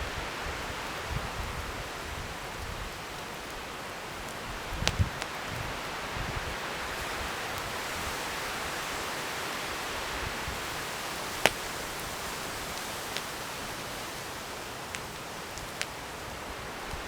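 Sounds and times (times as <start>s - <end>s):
campfire hissing: 0.0s - 17.0s
fire crackling pop: 2.6s - 17.0s.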